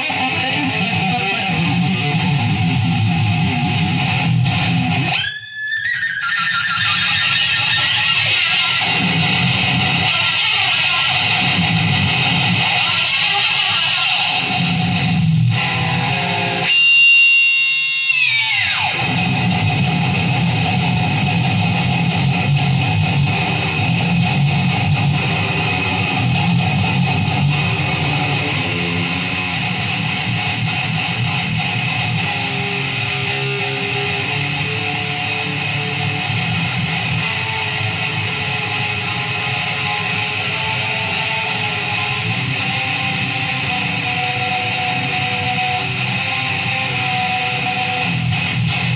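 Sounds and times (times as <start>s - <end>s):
electric guitar strumming: 0.0s - 48.9s.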